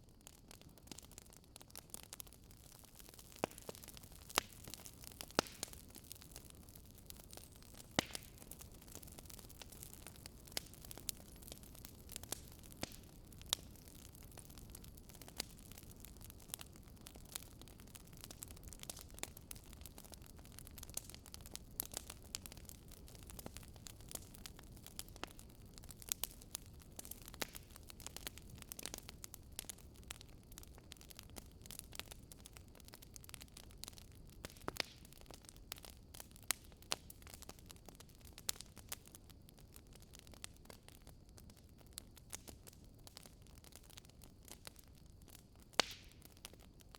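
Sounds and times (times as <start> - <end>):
firewood crackling and popping: 0.0 - 46.9
low rumble of fire: 0.0 - 46.9.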